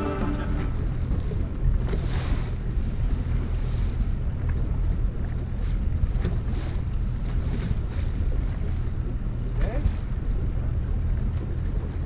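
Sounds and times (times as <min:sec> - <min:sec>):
outboard motor rumbling: 0:00.0 - 0:12.0
wind buffeting microphone: 0:00.0 - 0:12.0.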